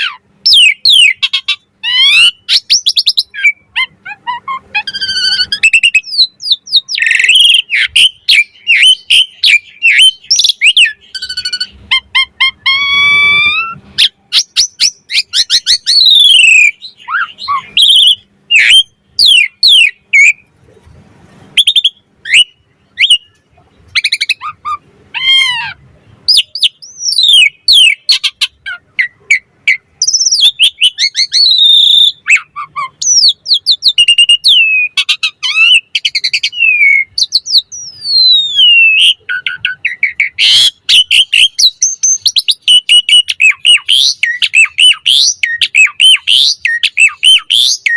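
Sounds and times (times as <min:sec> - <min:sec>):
starling singing whistles: 0:00.0 - 0:20.5, 0:21.6 - 0:23.4, 0:26.3 - 0:47.9.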